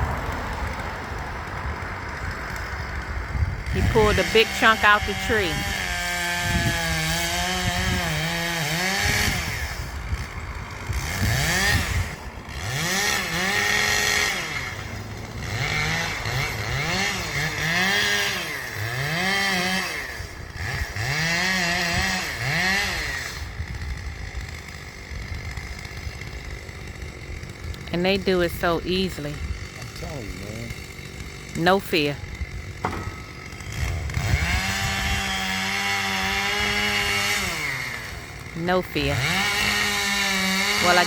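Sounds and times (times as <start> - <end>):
chainsaw cutting a tree: 0.0 - 41.0.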